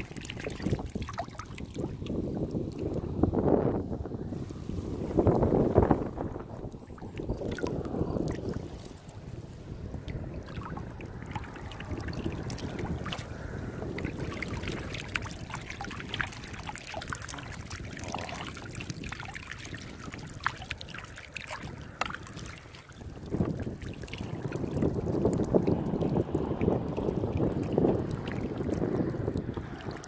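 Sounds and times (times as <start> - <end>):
small sharp splashes and drips: 0.0 - 3.1, 4.4 - 30.0
water lapping and splashing: 0.0 - 30.0.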